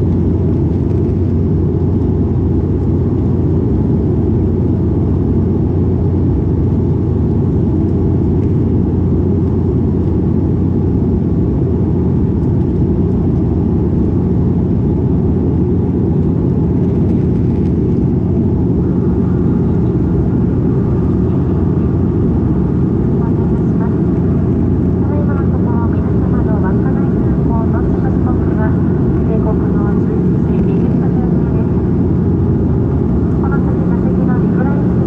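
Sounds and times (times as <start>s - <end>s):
airflow rumble: 0.0s - 35.0s
propeller engine drone: 0.0s - 35.0s.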